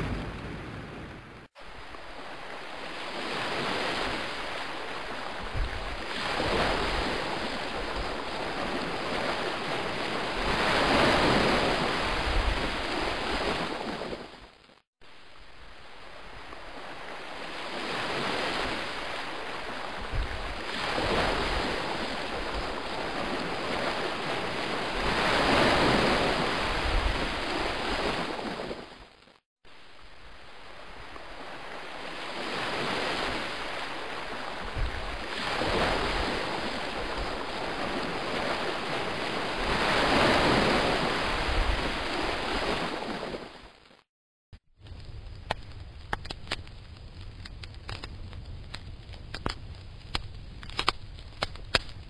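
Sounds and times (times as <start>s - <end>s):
waves surging and receding: 0.0s - 43.9s.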